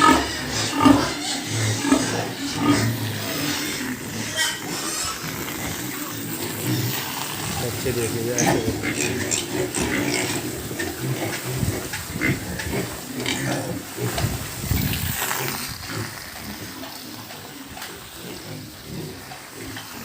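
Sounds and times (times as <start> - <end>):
pigs calling: 0.0 - 20.0.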